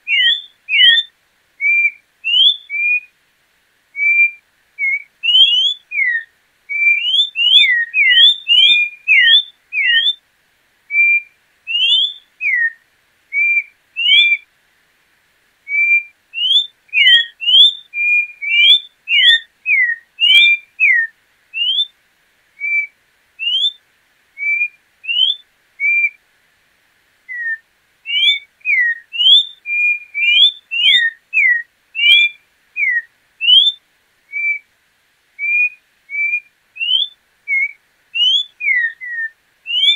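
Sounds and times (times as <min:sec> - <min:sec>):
bird singing whistled notes: 0:00.0 - 0:03.1, 0:04.0 - 0:10.2, 0:10.9 - 0:14.5, 0:15.7 - 0:21.9, 0:22.6 - 0:23.8, 0:24.4 - 0:26.2, 0:27.3 - 0:34.7, 0:35.4 - 0:39.9.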